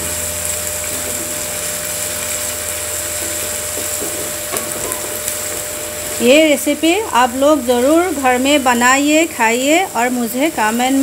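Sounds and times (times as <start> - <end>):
low hum: 0.0 - 11.0
onions sizzling in oil: 0.0 - 11.0.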